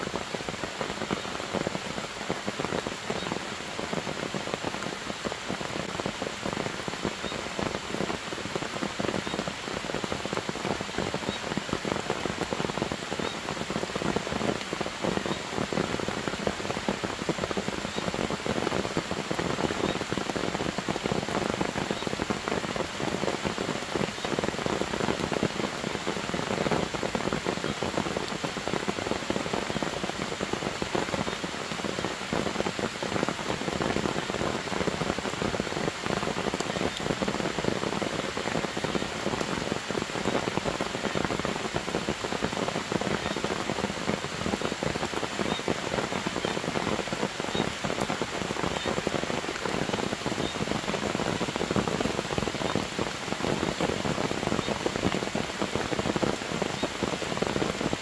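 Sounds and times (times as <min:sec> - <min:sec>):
rain on leaves and grass: 0:00.0 - 0:58.0.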